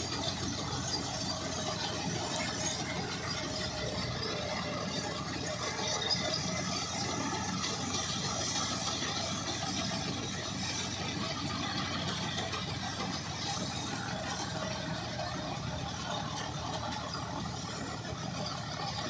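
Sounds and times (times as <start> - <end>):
straw cutter and blower: 0.0 - 19.0
tractor diesel engine running: 0.0 - 19.0.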